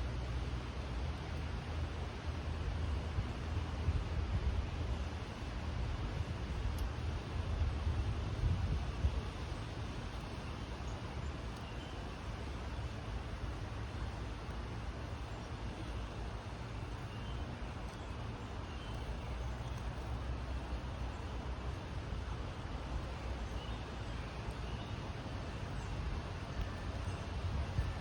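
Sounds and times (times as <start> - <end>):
outdoor background rumble: 0.0 - 28.0.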